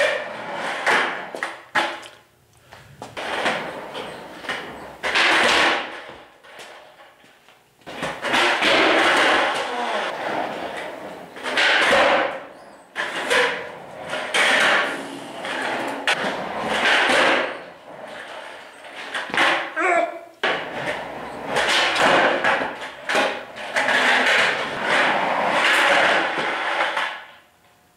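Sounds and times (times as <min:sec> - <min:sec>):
skate wheels rolling on concrete: 0:00.0 - 0:19.8, 0:20.4 - 0:27.5.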